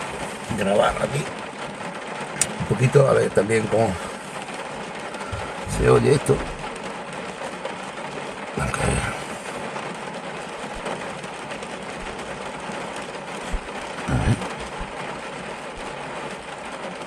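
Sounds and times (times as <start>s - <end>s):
rain on car roof: 0.0s - 17.0s.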